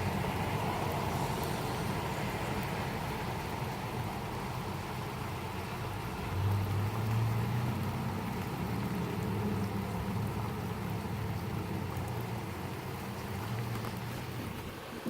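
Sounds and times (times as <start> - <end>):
heavy rain: 0.0 - 15.0
low motor hum: 0.1 - 15.0.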